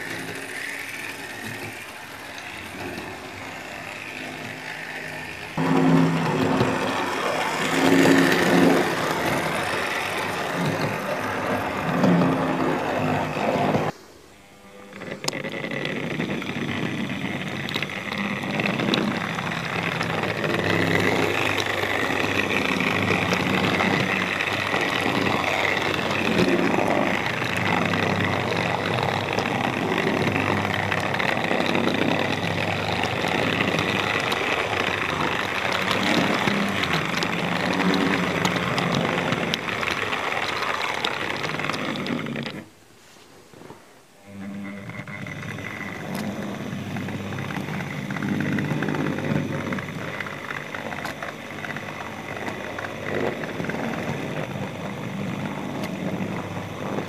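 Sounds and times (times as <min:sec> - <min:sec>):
electric motor whine: 0:00.0 - 0:42.7, 0:44.2 - 0:57.0
wheel and rail rumble: 0:00.0 - 0:57.0.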